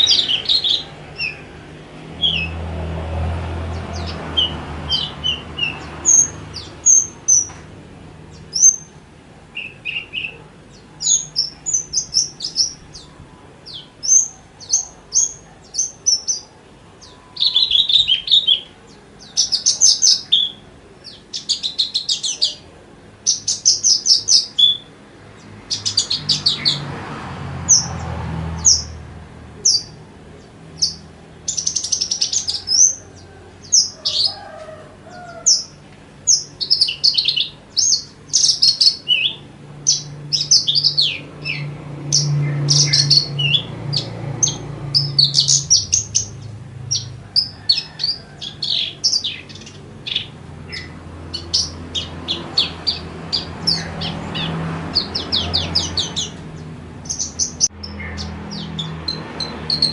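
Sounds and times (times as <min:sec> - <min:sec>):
lark singing chirps and trills: 0:00.0 - 0:02.6, 0:03.7 - 0:07.6, 0:08.2 - 0:26.9, 0:27.7 - 0:29.0, 0:29.6 - 0:59.9.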